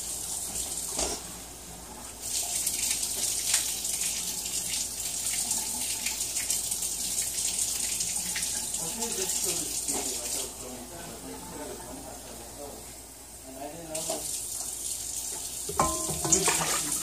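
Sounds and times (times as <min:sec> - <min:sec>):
faucet running water: 0:00.0 - 0:10.8, 0:13.8 - 0:17.0.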